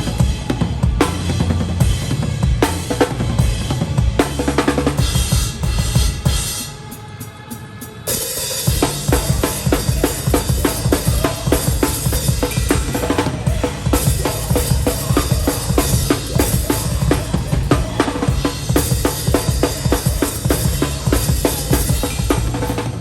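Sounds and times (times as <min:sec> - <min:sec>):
hardcore band playing live: 0:00.0 - 0:23.0.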